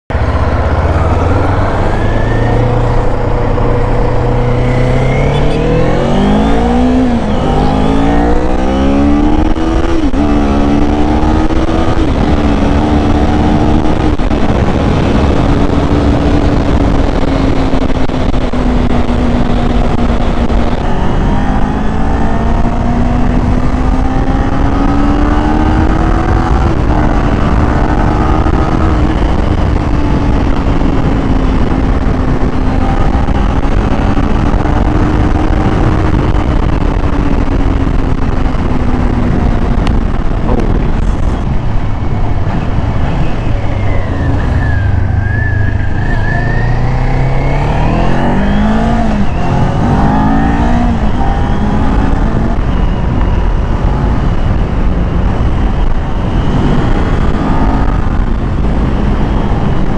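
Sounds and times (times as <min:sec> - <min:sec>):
motorcycle engine revving: 0:00.1 - 0:59.9
wind buffeting microphone: 0:00.1 - 0:59.9.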